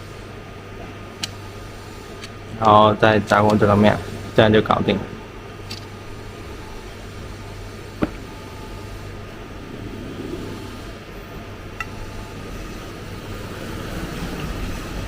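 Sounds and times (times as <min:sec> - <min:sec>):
milling machine hum and whir: 0:00.0 - 0:15.0.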